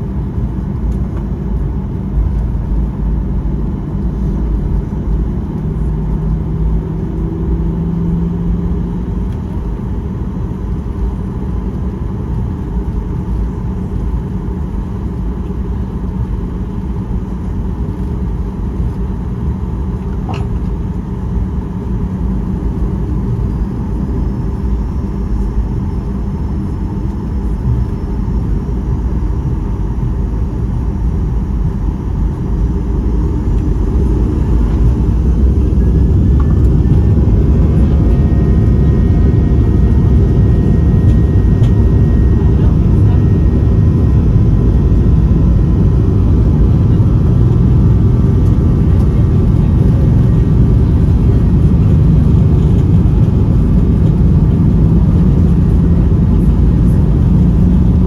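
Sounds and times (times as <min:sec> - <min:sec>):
jet cabin low rumble: 0:00.0 - 0:58.0.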